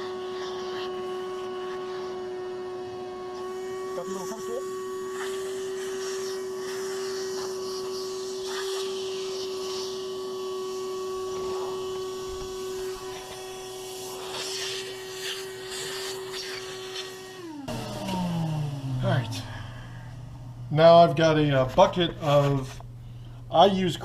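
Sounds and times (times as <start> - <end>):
shop vac whining: 0.0 - 24.0.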